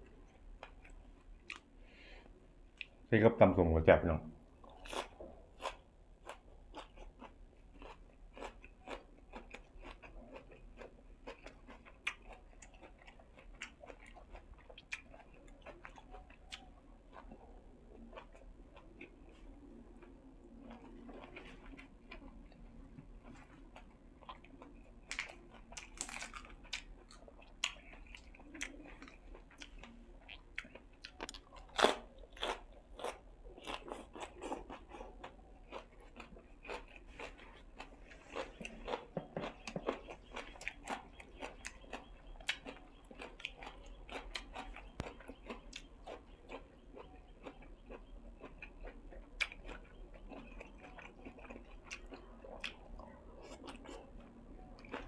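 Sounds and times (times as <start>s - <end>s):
person chewing crunchy food: 0.0s - 1.8s, 4.6s - 55.0s.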